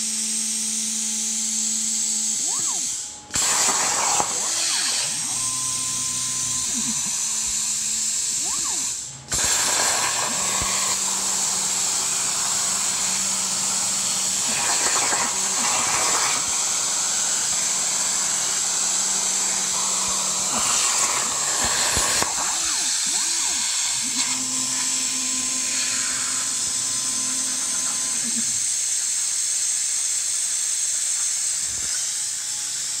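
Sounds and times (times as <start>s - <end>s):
plasma cutter hissing: 1.2s - 33.0s.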